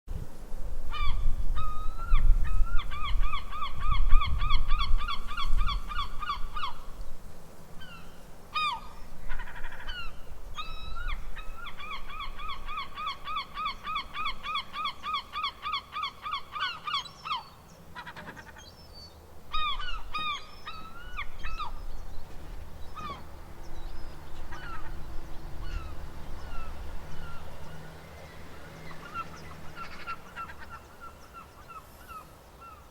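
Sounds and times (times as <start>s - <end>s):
seagulls calling: 0.9s - 6.9s, 7.8s - 32.9s.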